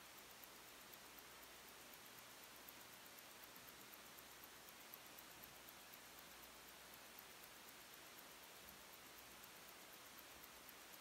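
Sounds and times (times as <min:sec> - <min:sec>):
steady hiss: 0:00.0 - 0:11.0
watch ticking: 0:00.0 - 0:11.0.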